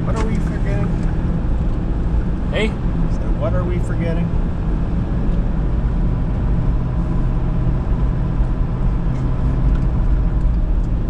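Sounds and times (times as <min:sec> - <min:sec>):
engine and road rumble in cab: 0:00.0 - 0:11.0.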